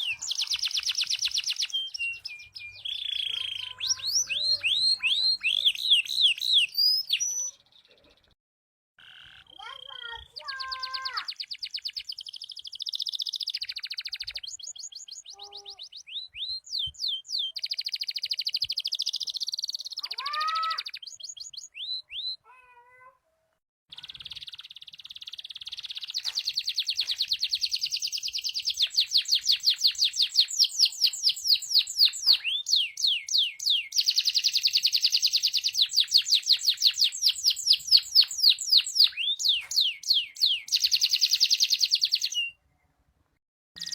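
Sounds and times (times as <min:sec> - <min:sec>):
canary singing trills: 0:00.0 - 0:08.4, 0:09.0 - 0:22.6, 0:23.9 - 0:42.9.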